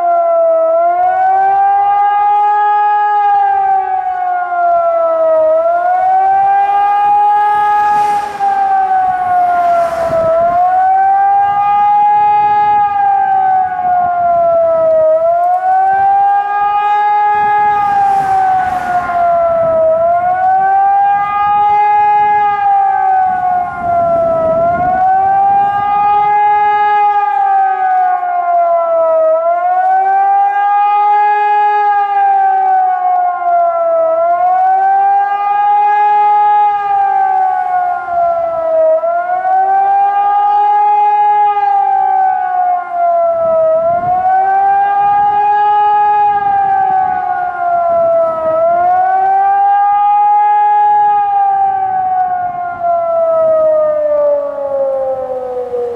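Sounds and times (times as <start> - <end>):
wavering civil defence siren: 0.0 - 55.9.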